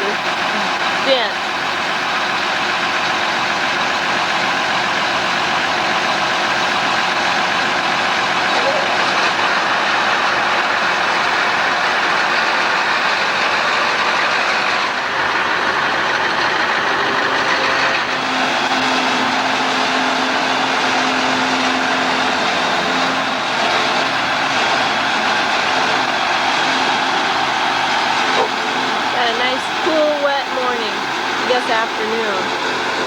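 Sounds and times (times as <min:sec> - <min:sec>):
truck engine and road noise: 0:00.0 - 0:33.0.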